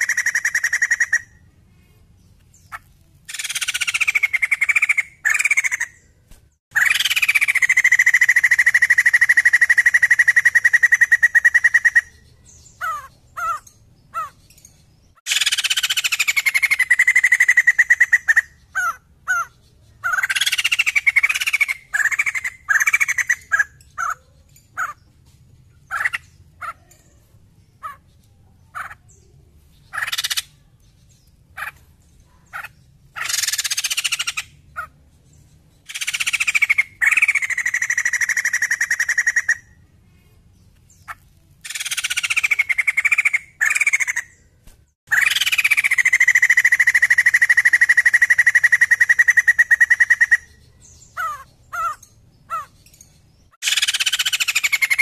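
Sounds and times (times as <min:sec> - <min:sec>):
bird chattering calls: 0:00.0 - 0:01.5, 0:02.6 - 0:25.2, 0:25.8 - 0:27.2, 0:27.8 - 0:30.7, 0:31.4 - 0:35.1, 0:35.8 - 0:39.9, 0:40.9 - 0:55.0.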